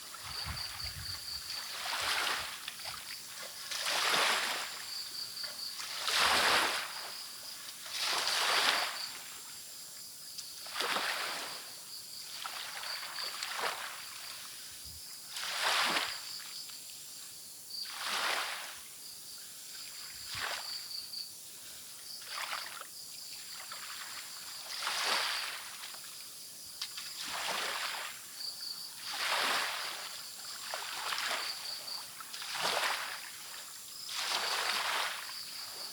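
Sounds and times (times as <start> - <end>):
crickets chirping: 0.0 - 35.9
small waves on a beach: 0.0 - 35.9.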